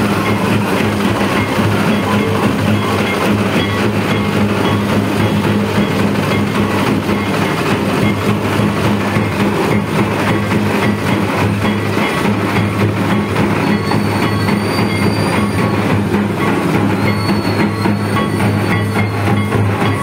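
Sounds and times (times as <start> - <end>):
drums played with sticks: 0.0 - 20.0
kettle drum struck with sticks: 0.0 - 20.0.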